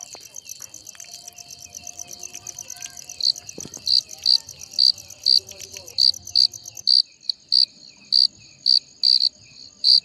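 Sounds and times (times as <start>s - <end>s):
close cricket chirping: 0.0s - 10.0s
crickets trilling: 0.0s - 10.0s.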